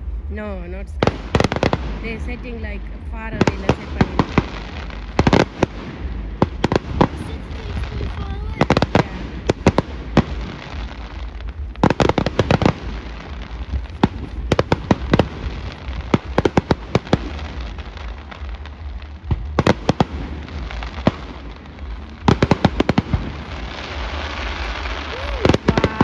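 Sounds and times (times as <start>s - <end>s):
fireworks bangs and crackles: 0.0s - 26.0s
steady low rumble: 0.0s - 26.0s.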